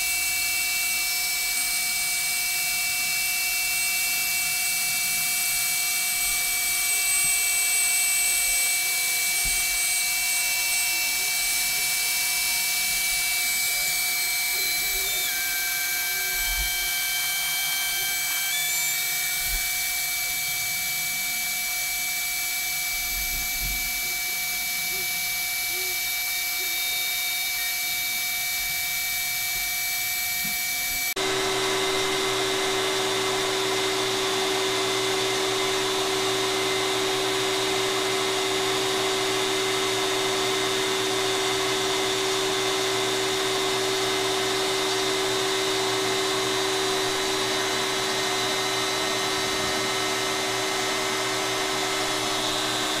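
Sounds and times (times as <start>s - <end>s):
router spindle whining: 0.0s - 53.0s.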